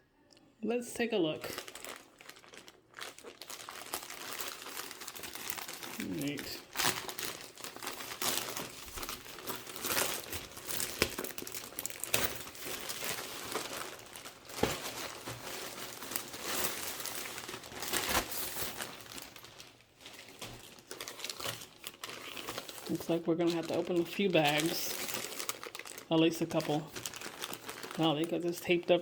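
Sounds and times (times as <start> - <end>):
plastic bags crinkling: 1.0 - 29.0.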